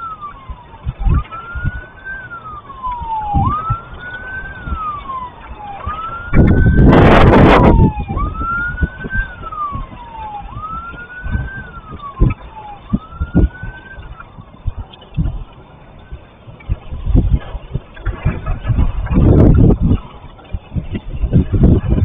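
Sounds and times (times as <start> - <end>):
emergency siren wailing: 0.0 - 22.0
wind buffeting microphone: 0.0 - 22.0.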